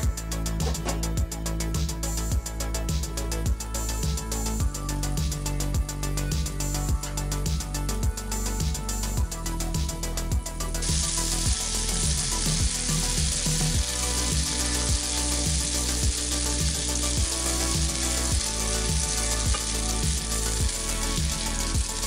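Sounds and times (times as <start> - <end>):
background music with steady beat: 0.0 - 22.0.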